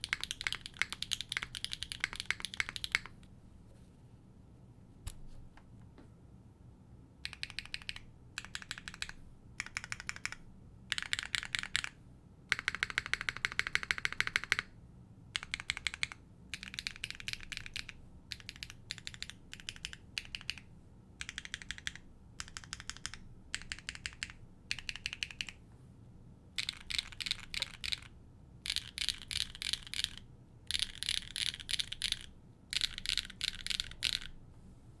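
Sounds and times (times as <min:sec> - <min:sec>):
mechanical keyboard typing: 0:00.0 - 0:03.2, 0:07.2 - 0:14.7, 0:15.4 - 0:25.6, 0:26.6 - 0:34.4.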